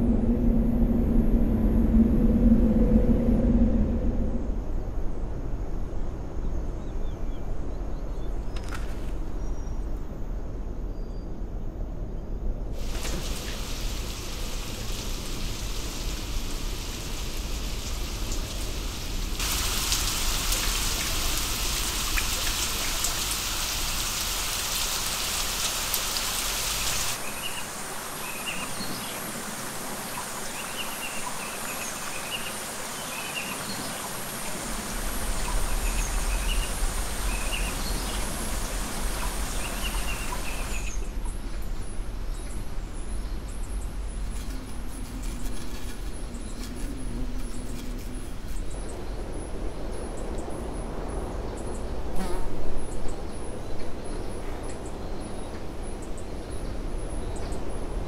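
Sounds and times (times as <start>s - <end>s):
steady forest hiss: 0.0s - 58.0s.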